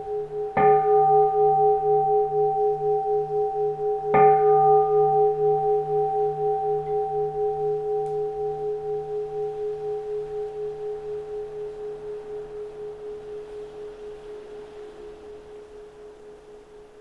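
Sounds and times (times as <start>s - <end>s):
bowl bell ringing: 0.0s - 14.0s.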